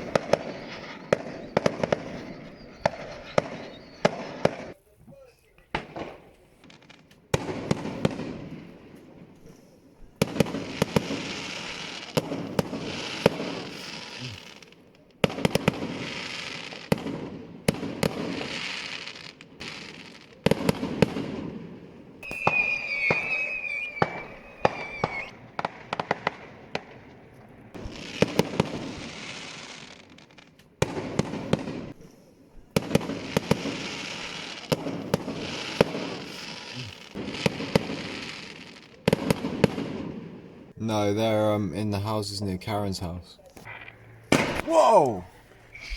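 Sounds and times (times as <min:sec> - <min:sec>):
whistling firework: 0:00.0 - 0:40.8, 0:43.6 - 0:45.9
fireworks bangs and crackles: 0:00.0 - 0:41.0, 0:41.9 - 0:45.9.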